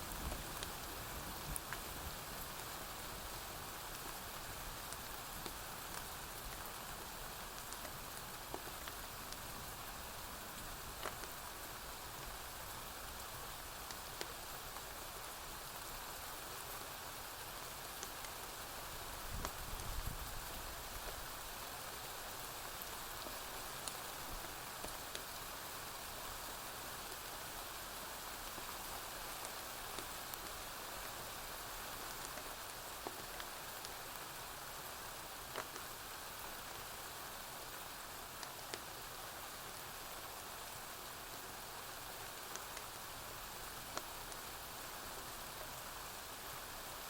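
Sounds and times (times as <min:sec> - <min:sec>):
rain falling on a roof: 0:00.0 - 0:47.0.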